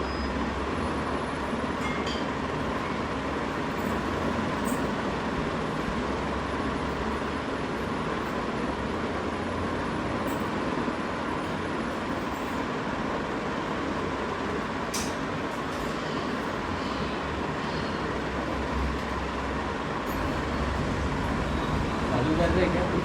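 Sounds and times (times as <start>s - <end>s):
moving vehicle rumble and hiss: 0.0s - 23.0s.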